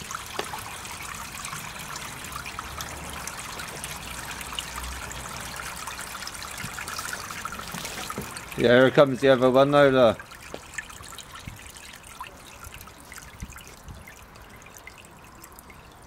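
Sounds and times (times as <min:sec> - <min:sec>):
water trickling through a drain: 0:00.0 - 0:16.0.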